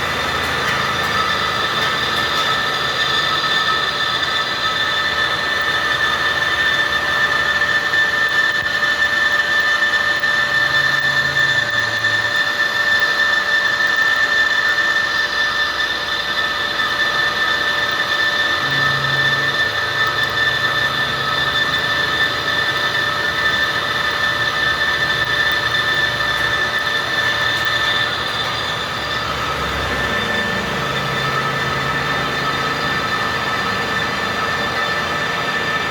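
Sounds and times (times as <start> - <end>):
metal lathe whining: 0.0 - 35.9.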